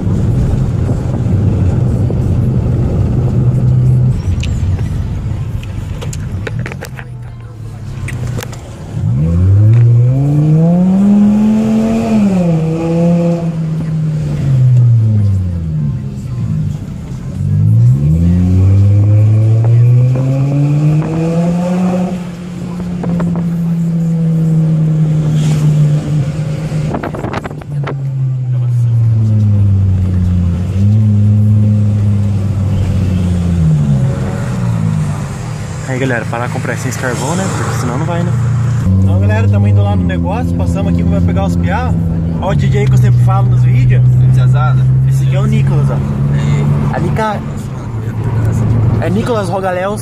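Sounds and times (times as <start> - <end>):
car engine and road drone: 0.0 - 50.0.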